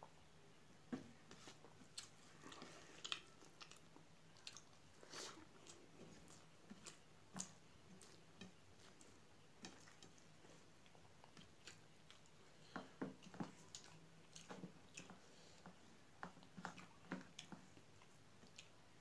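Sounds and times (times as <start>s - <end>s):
person chewing: 1.4s - 18.8s.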